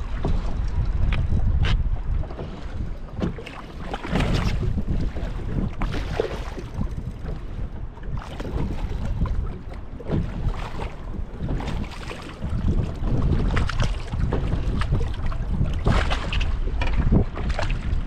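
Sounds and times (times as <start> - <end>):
water splashing: 0.0 - 18.0
wind buffeting microphone: 0.0 - 18.0.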